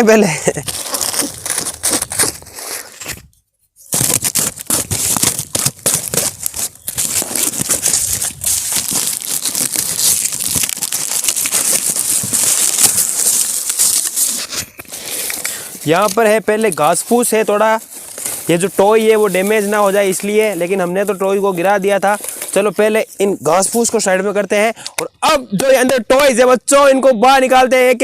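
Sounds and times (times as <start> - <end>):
packing tape being peeled: 0.4 - 24.0.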